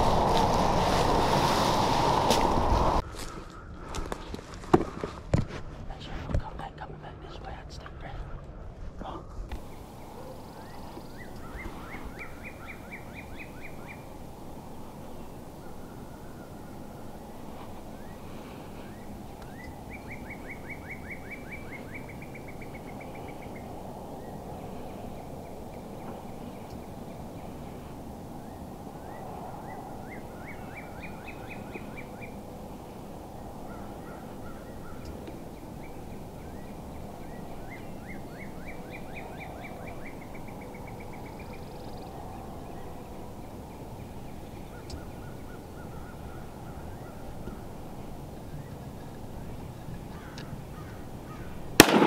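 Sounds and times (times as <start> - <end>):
steady low background rush: 0.0 - 3.8, 5.6 - 52.0.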